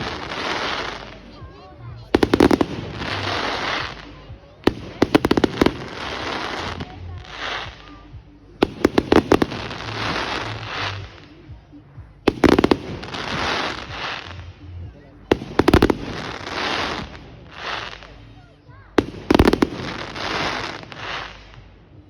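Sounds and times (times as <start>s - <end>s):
fireworks rapid bangs: 0.0s - 11.3s, 12.3s - 14.5s, 15.3s - 18.3s, 19.0s - 21.6s
fireworks hissing crackle: 0.0s - 22.0s.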